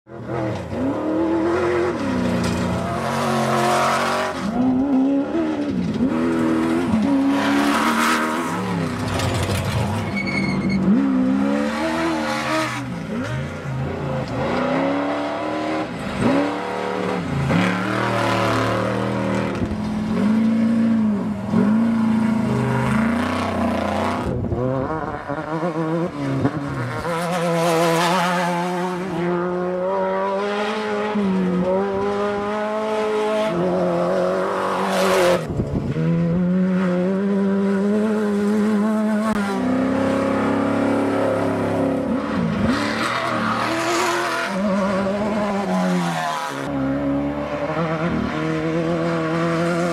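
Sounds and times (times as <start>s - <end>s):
off-road vehicle engines revving: 0.1s - 49.9s.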